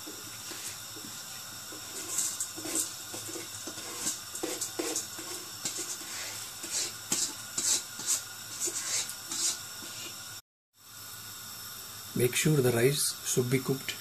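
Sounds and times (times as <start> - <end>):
rice pouring into boiling water: 0.0 - 12.8.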